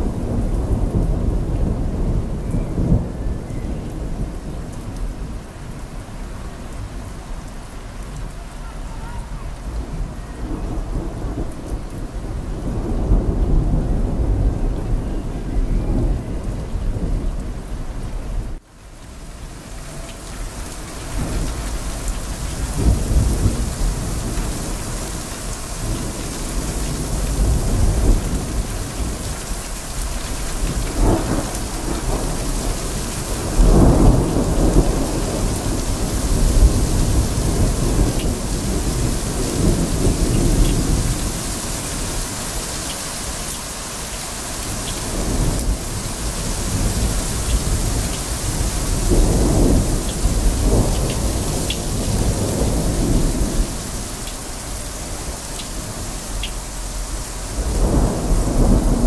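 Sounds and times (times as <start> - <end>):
rolling thunder: 0.0 - 5.9, 9.3 - 18.6, 19.7 - 42.6, 43.9 - 59.0
steady rain falling: 0.0 - 59.0.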